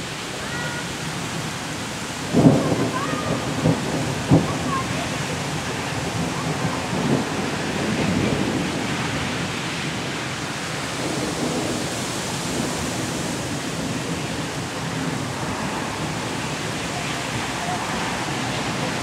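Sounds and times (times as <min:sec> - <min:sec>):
heavy rain pouring: 0:00.0 - 0:19.0
low thunder rumble: 0:01.4 - 0:19.0.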